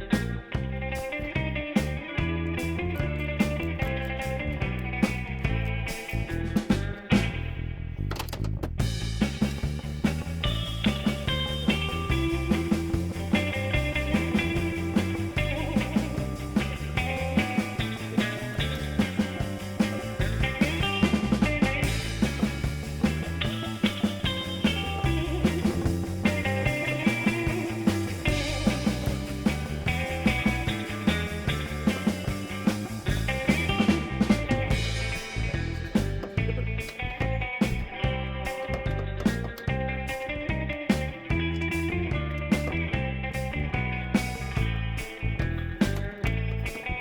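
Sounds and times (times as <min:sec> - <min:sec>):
rock music: 0:00.0 - 0:47.0.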